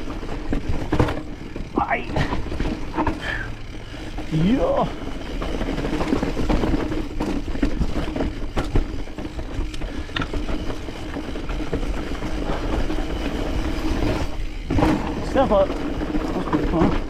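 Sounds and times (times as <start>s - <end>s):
bike rattling: 0.0s - 17.0s
bike tyres over rock: 0.0s - 17.0s.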